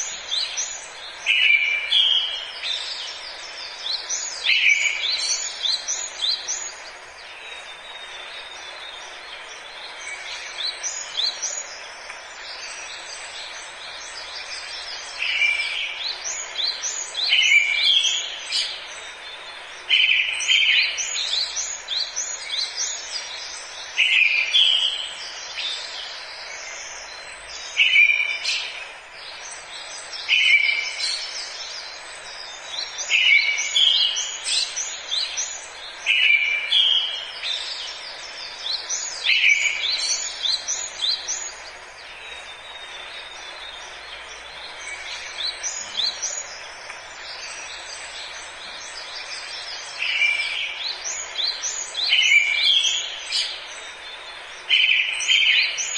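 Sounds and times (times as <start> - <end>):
birds chirping: 0.0 - 55.9
forest ambience hiss: 0.0 - 55.9.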